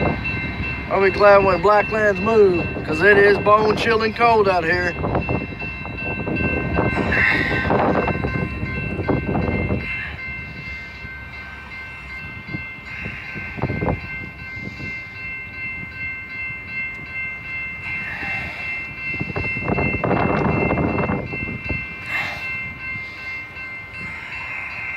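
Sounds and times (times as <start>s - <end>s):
diesel locomotive engine rumble: 0.0s - 24.9s.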